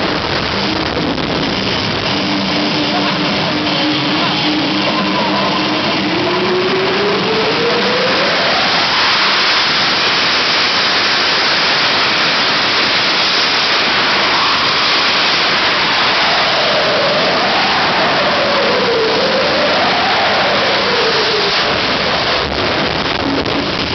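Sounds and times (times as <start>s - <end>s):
jet engine turbine whine: 0.0s - 23.9s.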